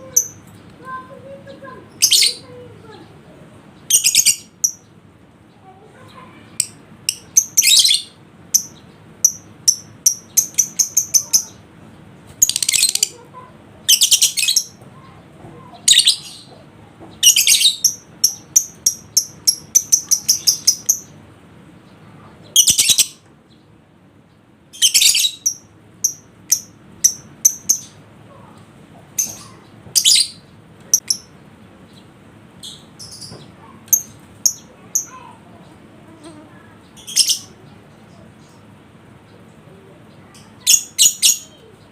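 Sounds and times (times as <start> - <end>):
lovebird chirping and chattering: 0.0 - 23.6, 24.7 - 41.9.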